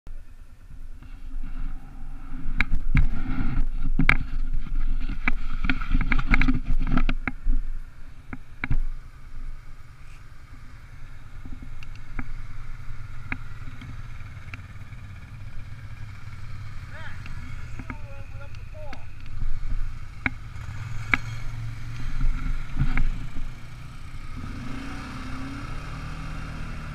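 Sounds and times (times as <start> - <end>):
atv engine running: 0.4 - 26.9.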